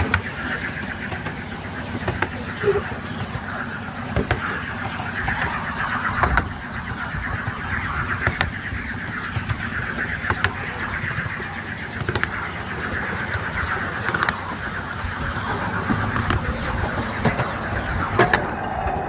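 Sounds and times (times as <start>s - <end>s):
train wheels rumbling on rails: 0.0s - 19.0s
wheels clicking over rail joints: 0.0s - 19.0s.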